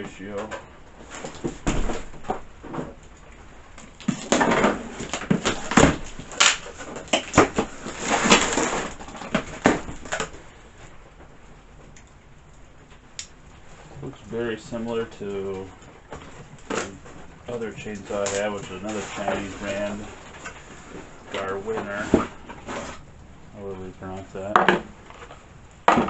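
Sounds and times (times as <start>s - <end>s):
cardboard packaging rustling: 0.2s - 3.0s, 3.8s - 11.0s, 13.7s - 26.0s.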